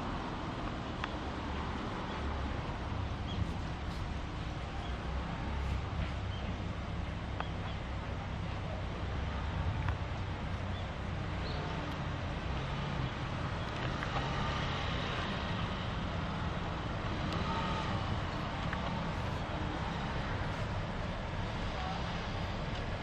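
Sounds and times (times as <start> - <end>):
low engine rumble: 0.0 - 23.0
traffic noise: 0.0 - 23.0.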